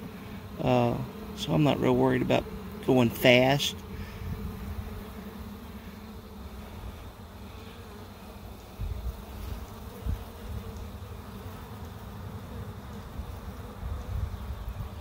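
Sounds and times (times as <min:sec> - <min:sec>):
honey bees buzzing: 0:00.0 - 0:15.0.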